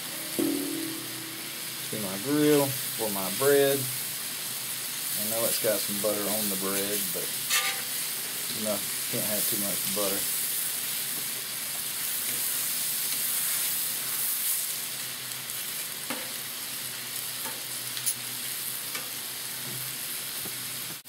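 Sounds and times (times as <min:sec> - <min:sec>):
butter sizzling on a griddle: 0:00.0 - 0:21.0.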